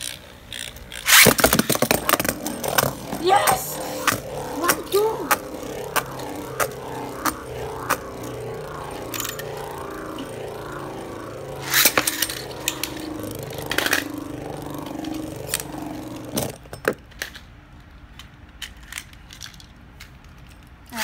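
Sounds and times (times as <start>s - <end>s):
spinning top whirring: 0.0s - 17.4s.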